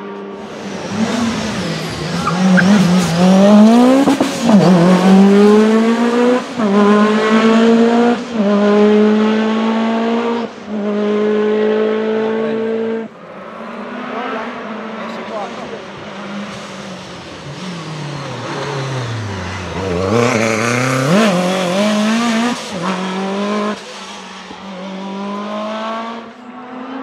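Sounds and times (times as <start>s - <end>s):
rally car engine revving high: 0.0s - 27.0s.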